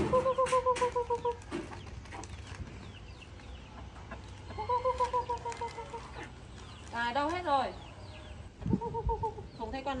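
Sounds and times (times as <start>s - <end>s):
person calling chickens: 0.0s - 2.4s, 3.6s - 10.0s.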